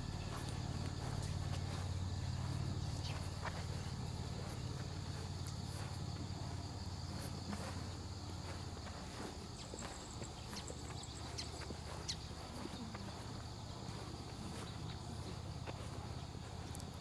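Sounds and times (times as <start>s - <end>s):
crickets chirring: 0.0s - 17.0s
low steady hum: 0.0s - 17.0s.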